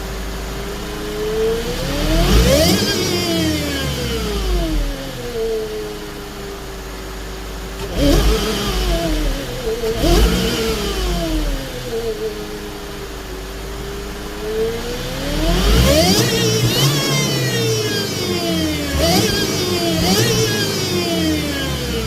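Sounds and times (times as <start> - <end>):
car engine revving: 0.0 - 6.4, 7.8 - 22.0
supercharger whine: 0.0 - 22.0.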